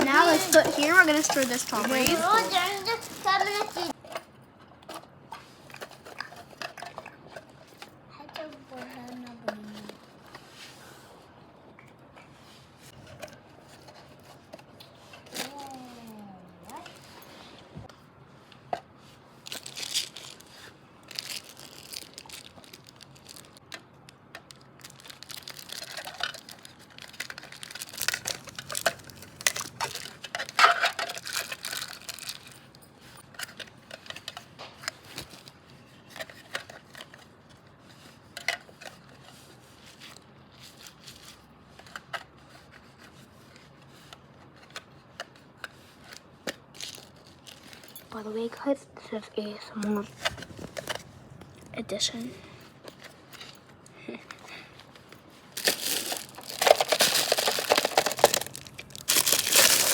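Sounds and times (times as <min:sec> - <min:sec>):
plastic crinkling and rustling: 0:00.0 - 0:04.2, 0:12.4 - 0:17.4, 0:18.9 - 0:48.6, 0:49.8 - 0:59.9.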